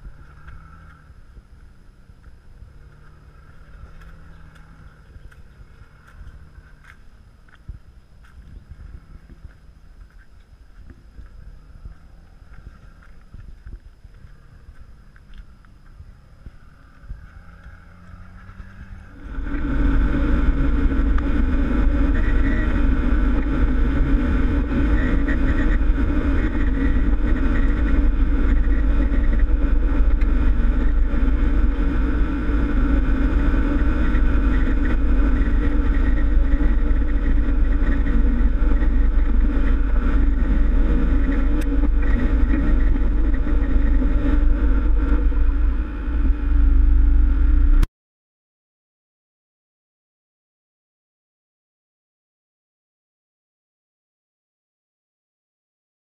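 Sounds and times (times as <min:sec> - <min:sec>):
faint distant engine: 0:00.0 - 0:47.9
off-road vehicle driving: 0:00.0 - 0:47.9.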